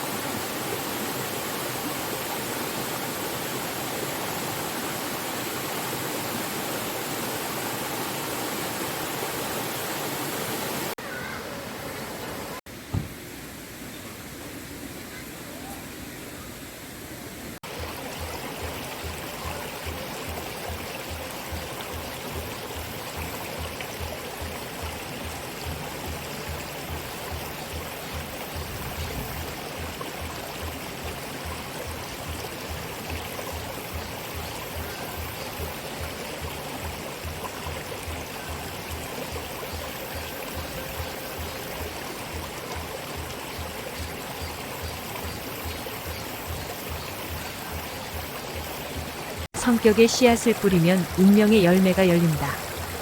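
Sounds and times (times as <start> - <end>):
water rushing over rocks: 0.0 - 12.6, 17.6 - 53.0.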